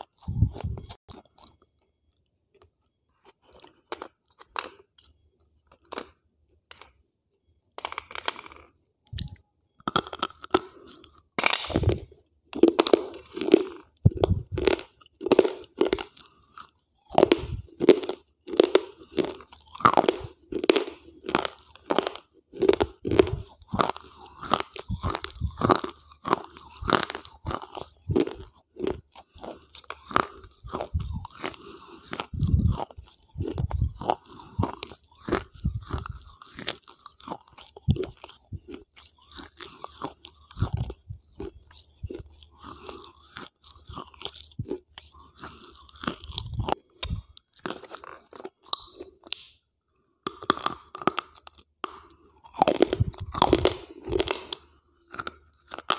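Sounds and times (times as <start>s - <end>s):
crunching and chewing hard pieces: 0.0s - 1.8s, 2.5s - 7.0s, 7.8s - 55.9s.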